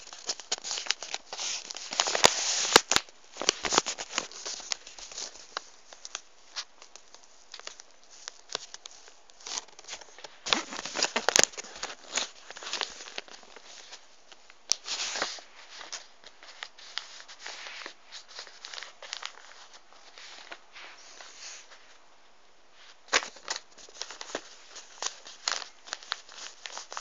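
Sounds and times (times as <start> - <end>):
paper rustling and crinkling: 0.0 - 22.0, 22.7 - 27.0.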